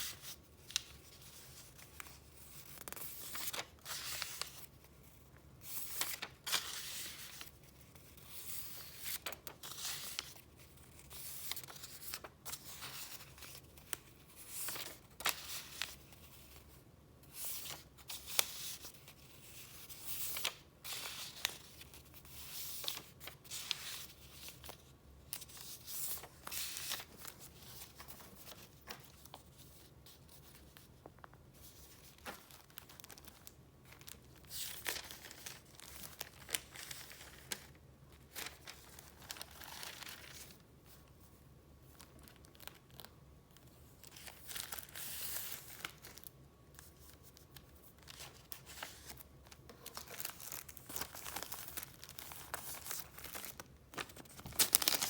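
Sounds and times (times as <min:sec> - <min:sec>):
paper rustling and crinkling: 0:00.0 - 0:55.0.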